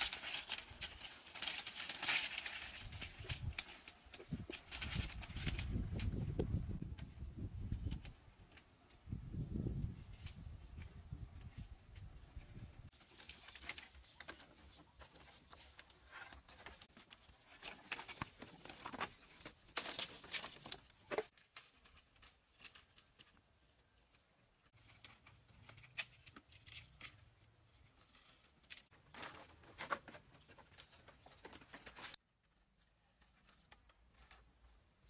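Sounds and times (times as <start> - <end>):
bamboo poles rustling and scraping: 0.0 - 35.0.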